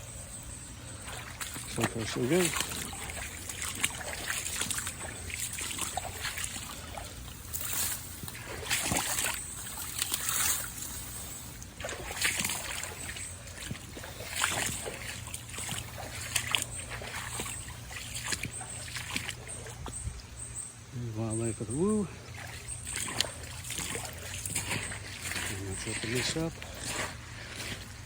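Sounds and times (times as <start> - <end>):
running water trickling: 0.0 - 28.0
splashing in shallow water: 0.0 - 28.0.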